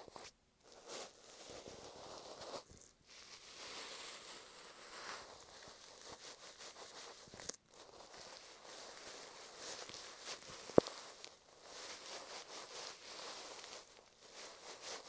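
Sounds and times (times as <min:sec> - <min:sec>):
scratchy rustles on microphone: 0:00.0 - 0:15.0.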